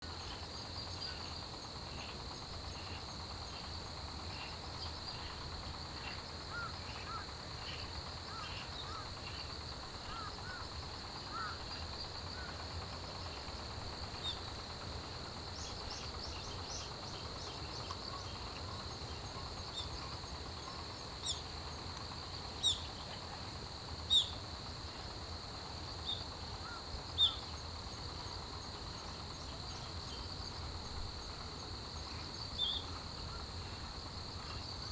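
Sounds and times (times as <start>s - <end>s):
insects and crickets trilling: 0.0s - 34.9s.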